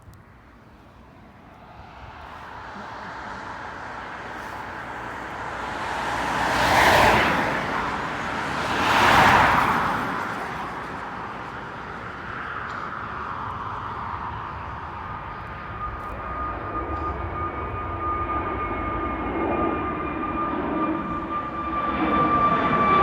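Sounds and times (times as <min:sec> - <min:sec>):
jet engine hum: 0:00.0 - 0:23.0
road vehicles passing by: 0:00.0 - 0:23.0.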